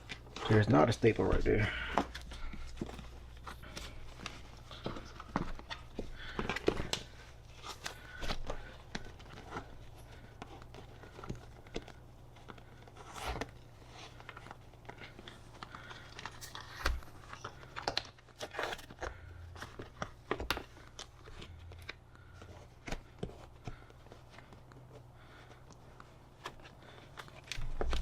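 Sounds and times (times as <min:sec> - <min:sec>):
vinyl rustling and crinkling: 0:00.0 - 0:28.0.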